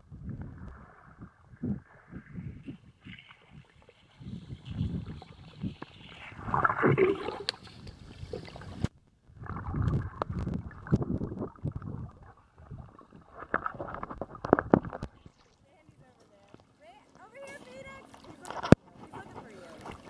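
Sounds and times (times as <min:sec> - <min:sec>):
underwater water sloshing: 0:00.0 - 0:20.0.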